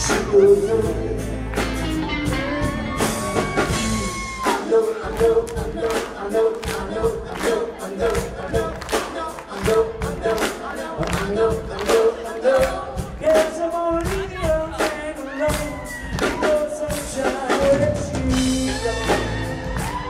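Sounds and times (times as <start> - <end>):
live band music: 0.0 - 20.0
steady drum beat: 0.0 - 20.0.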